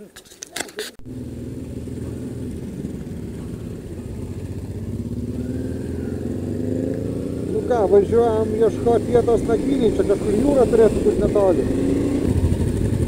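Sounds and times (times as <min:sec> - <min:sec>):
motorcycle engine running: 0:01.0 - 0:13.0.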